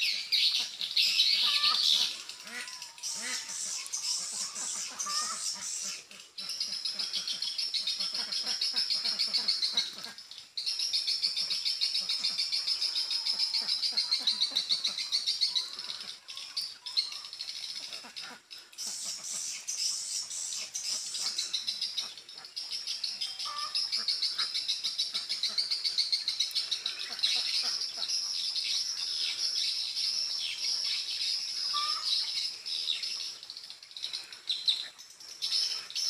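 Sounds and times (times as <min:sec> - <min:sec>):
buzzy twittering bird calls: 0:00.0 - 0:36.0.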